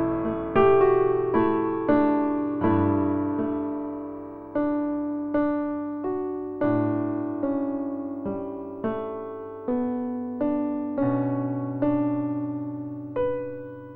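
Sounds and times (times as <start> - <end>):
slow piano chords: 0.0 - 13.9.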